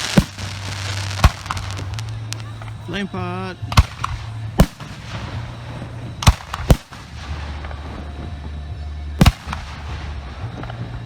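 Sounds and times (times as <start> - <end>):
fireworks bangs: 0.0 - 11.0
steady background din: 0.0 - 11.0.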